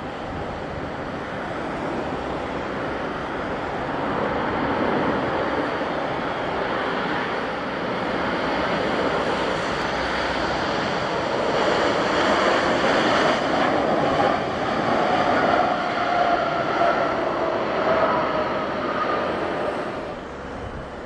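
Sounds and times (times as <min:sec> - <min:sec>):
jet engine noise: 0:00.0 - 0:21.0
jet engine whine: 0:00.0 - 0:21.0
wind buffeting microphone: 0:00.0 - 0:21.0.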